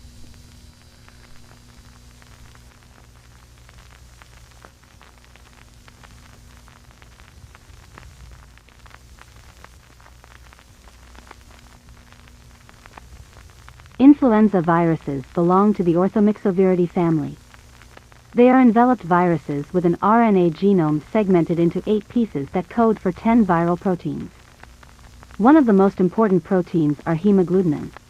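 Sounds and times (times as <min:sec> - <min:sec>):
crackling static hiss: 0:00.0 - 0:28.0
low electrical hum: 0:00.0 - 0:28.0.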